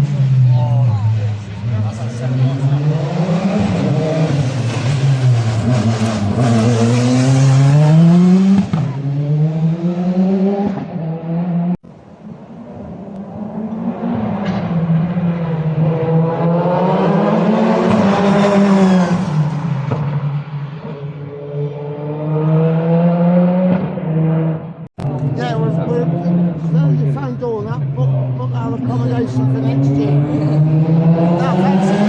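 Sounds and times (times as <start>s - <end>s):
race car engine accelerating: 0.0s - 32.0s.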